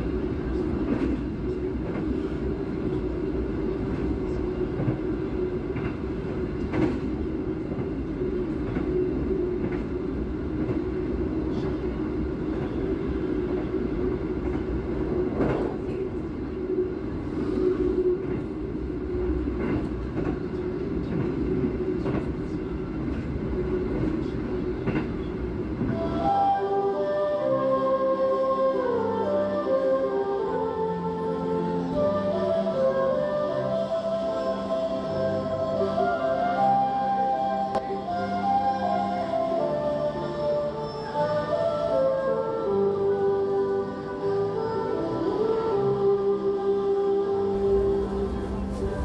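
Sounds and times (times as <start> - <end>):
wheels rumbling on rails: 0.0 - 27.2, 30.6 - 49.0.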